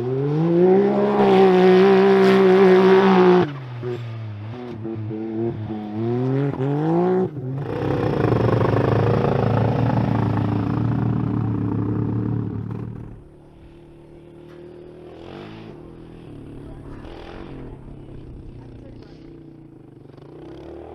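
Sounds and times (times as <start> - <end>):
atv engine accelerating: 0.0 - 20.9.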